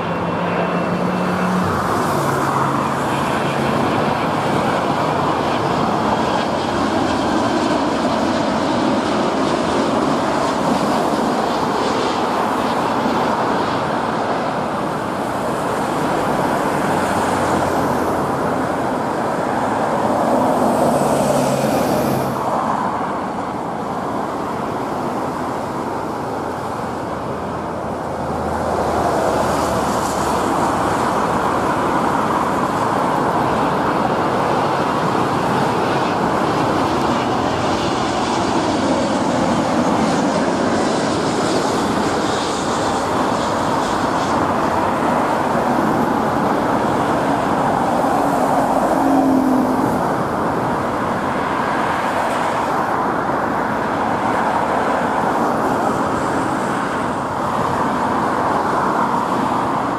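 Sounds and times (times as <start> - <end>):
jet airliner engine noise: 0.0 - 59.9.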